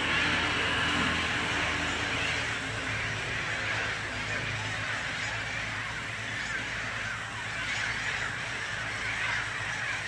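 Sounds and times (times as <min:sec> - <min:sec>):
seagulls calling: 0:00.0 - 0:10.0.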